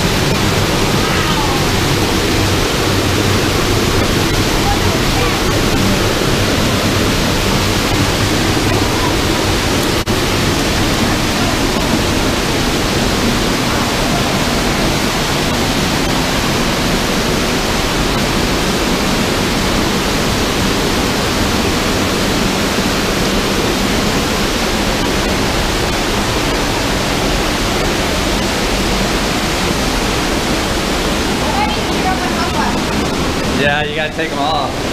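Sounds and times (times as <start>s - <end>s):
waterfall rushing onto rock: 0.0s - 34.9s.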